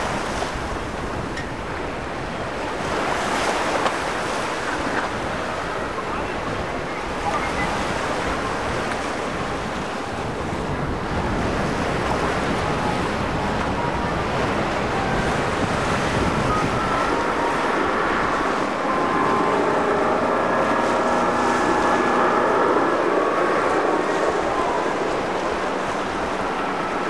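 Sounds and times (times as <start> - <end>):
choppy water rushing: 0.0 - 27.0
outboard motors whining: 0.0 - 27.0
wind buffeting microphone: 0.0 - 27.0.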